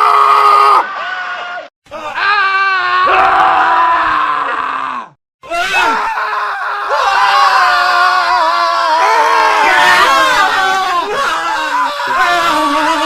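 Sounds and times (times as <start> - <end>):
men screaming: 0.0 - 13.0.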